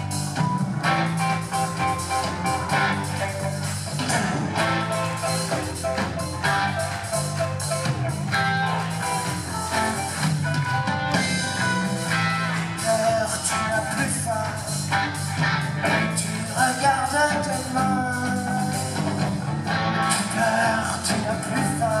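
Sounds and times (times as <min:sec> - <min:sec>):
bass guitar: 0:00.0 - 0:22.0
drum kit: 0:00.0 - 0:22.0
electric guitars: 0:00.0 - 0:22.0.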